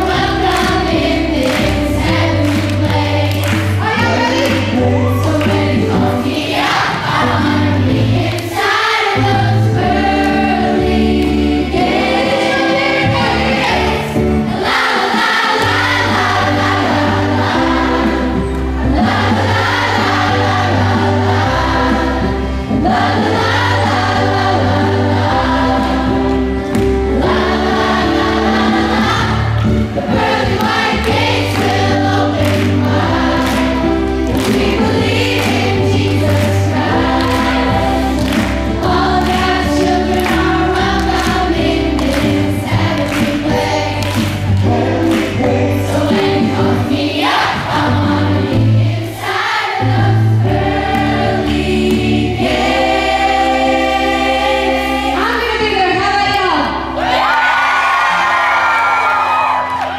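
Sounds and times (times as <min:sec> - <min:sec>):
band accompaniment: 0:00.0 - 0:49.1
group singing gospel: 0:00.0 - 0:55.7.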